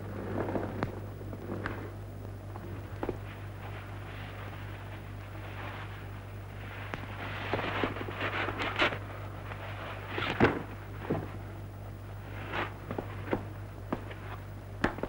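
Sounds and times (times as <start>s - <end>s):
steady low hum: 0.0s - 15.0s
scuffs and rustles: 2.6s - 15.0s.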